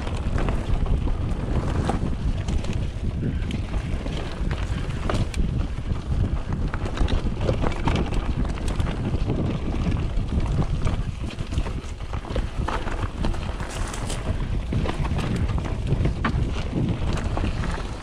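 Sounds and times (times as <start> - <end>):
bike tyres rumbling on dirt: 0.0 - 18.0
gravel and bike rattles: 0.0 - 18.0
wind buffeting microphone: 0.0 - 18.0.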